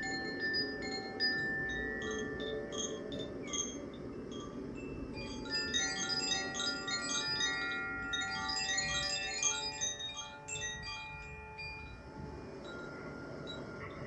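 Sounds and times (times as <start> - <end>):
wind chimes ringing: 0.0 - 14.0.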